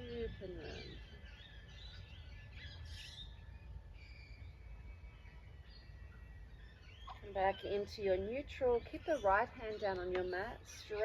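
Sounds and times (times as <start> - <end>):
birds chirping and singing: 0.0 - 11.0
low outdoor rumble: 0.0 - 11.0.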